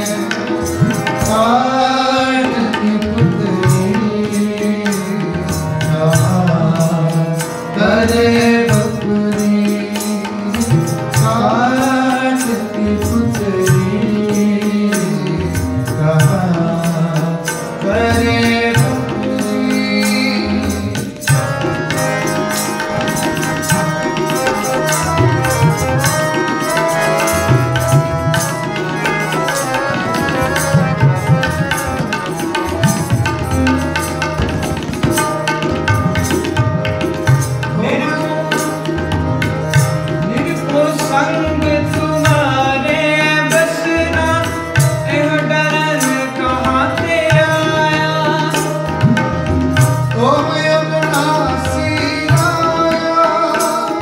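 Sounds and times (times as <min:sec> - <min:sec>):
harmonium melody: 0:00.0 - 0:54.0
tabla rhythm: 0:00.0 - 0:54.0.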